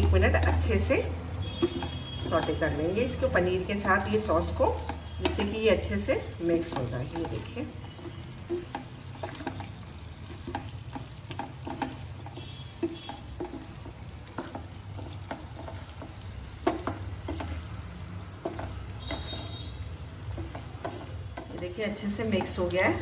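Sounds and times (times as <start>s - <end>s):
food sizzling in a pan: 0.0s - 23.0s
wooden spatula scraping a pan: 0.0s - 23.0s.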